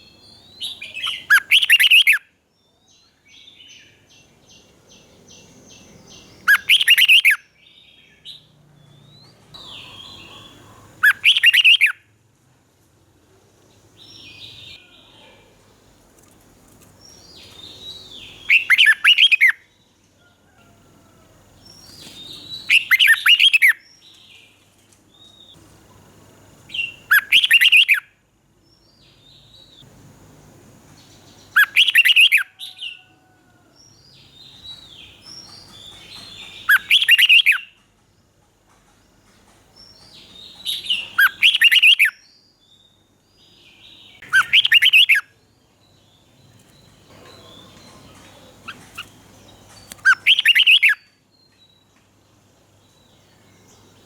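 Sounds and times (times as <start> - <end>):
bird warbled song: 0.0 - 12.0, 13.9 - 25.7, 26.7 - 29.9, 30.9 - 38.0, 38.8 - 54.0
soft bird chirps: 0.0 - 12.0, 13.9 - 25.6, 26.7 - 28.1, 30.9 - 38.0, 38.8 - 52.2.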